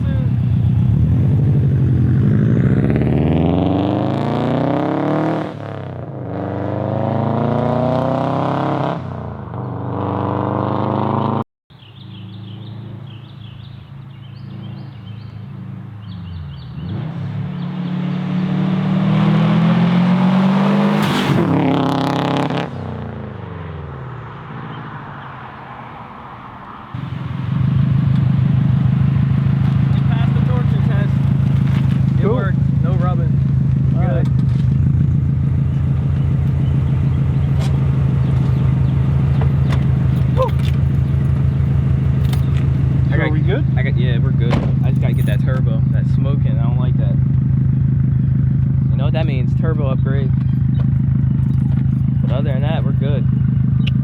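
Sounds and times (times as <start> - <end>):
car engine accelerating: 0.0 - 11.4, 12.0 - 25.0, 27.0 - 54.0.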